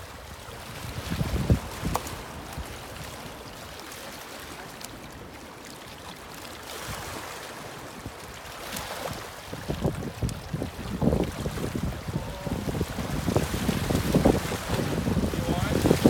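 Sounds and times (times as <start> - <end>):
river water lapping on rocks: 0.0 - 16.0.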